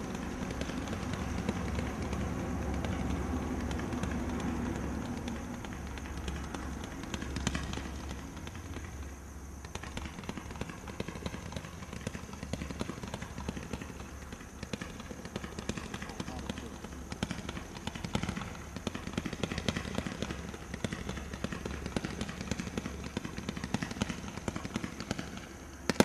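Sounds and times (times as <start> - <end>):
fireworks sharp pops: 0.0 - 26.0.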